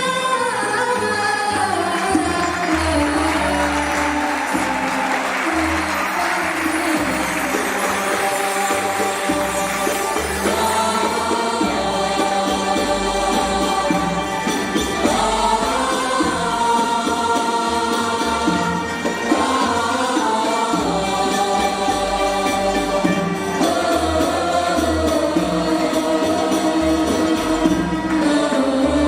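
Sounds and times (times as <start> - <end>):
instrumental accompaniment: 0.0 - 29.0
choir singing in unison: 0.7 - 29.0.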